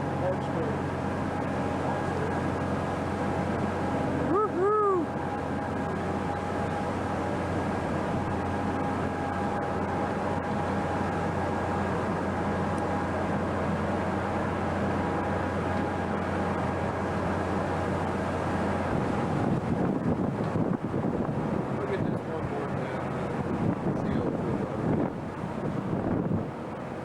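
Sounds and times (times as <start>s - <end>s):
rush of wind and sea: 0.0s - 27.0s
ship machinery drone: 0.0s - 27.0s.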